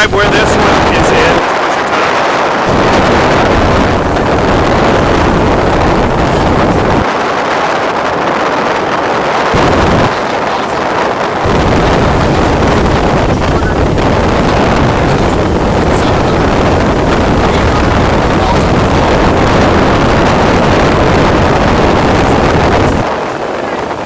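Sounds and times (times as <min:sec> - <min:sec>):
boat motor: 0:00.0 - 0:24.0
water rushing: 0:00.0 - 0:24.0
wind buffeting microphone: 0:00.0 - 0:24.0.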